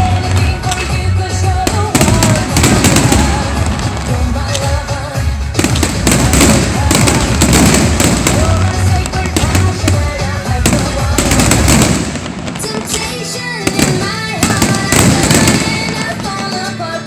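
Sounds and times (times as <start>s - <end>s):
fireworks bursting and crackling: 0.0s - 17.0s
music playing: 0.0s - 17.0s.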